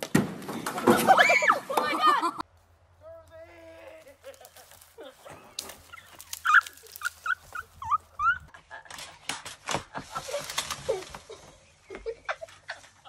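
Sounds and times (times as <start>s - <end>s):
leaves and twigs rustling: 2.4s - 13.0s.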